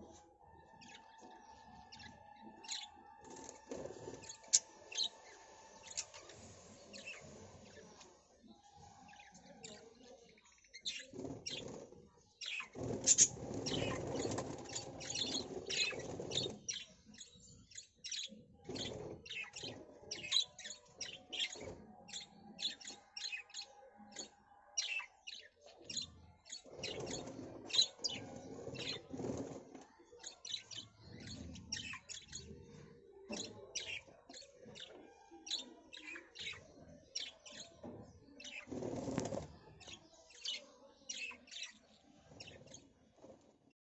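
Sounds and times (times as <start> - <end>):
birds chirping: 0.0 - 43.4.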